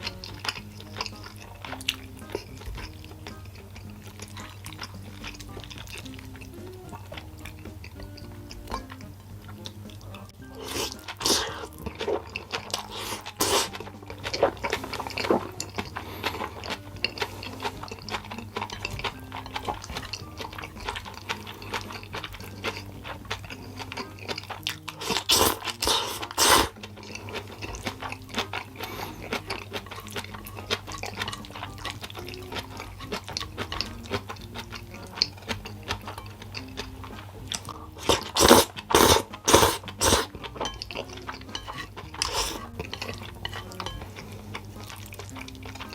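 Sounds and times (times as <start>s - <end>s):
chewing noodles: 0.0s - 45.9s
quiet background music: 0.0s - 45.9s.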